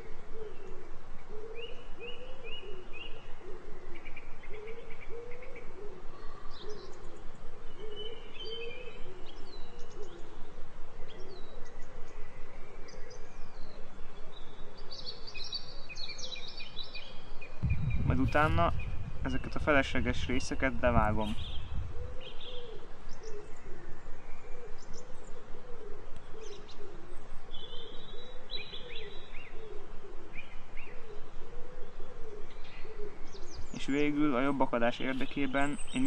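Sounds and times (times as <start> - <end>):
low repeated bird call: 0.0 - 36.0
small birds chirping and trilling: 0.0 - 36.0.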